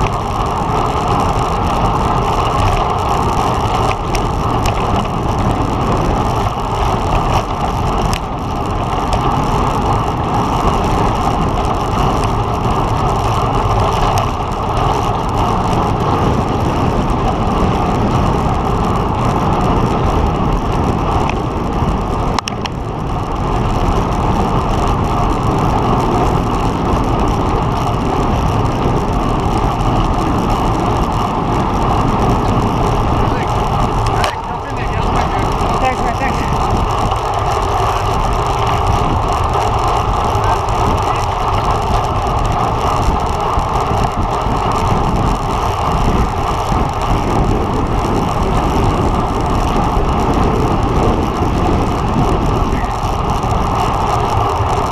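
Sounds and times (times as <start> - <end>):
bicycle tyre noise: 0.0 - 54.9
wind noise: 0.0 - 54.9.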